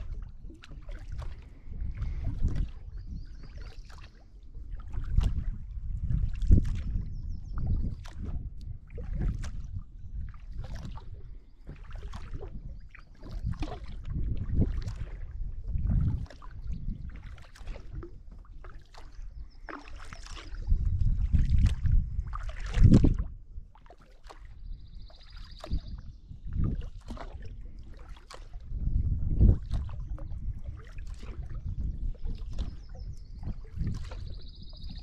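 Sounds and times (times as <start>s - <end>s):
paddle splashing in water: 0.0s - 35.0s
water dripping from paddle: 0.0s - 35.0s
wind on microphone: 0.0s - 35.0s.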